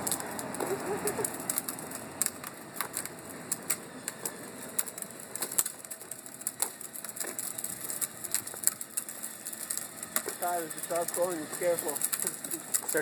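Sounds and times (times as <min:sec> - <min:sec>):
plastic toy truck on pavement: 0:00.0 - 0:13.0.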